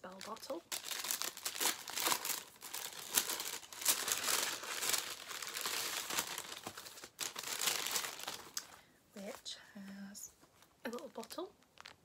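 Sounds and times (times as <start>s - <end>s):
paper packaging crinkling: 0.0s - 8.6s, 10.6s - 12.0s.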